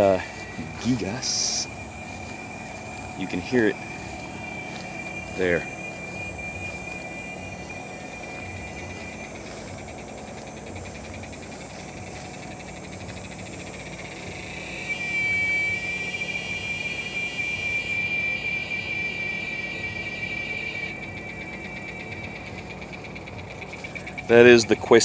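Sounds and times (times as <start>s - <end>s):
cicada high-pitched whine: 0.0s - 25.0s.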